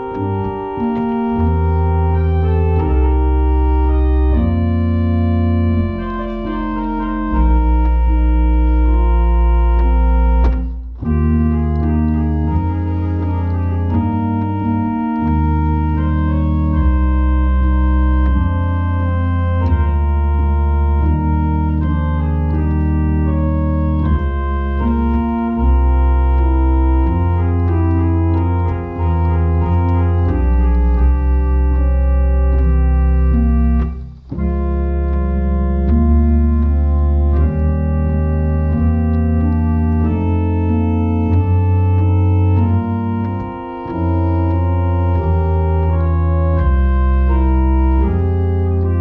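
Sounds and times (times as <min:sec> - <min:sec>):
pipe organ chords: 0:00.0 - 0:49.0.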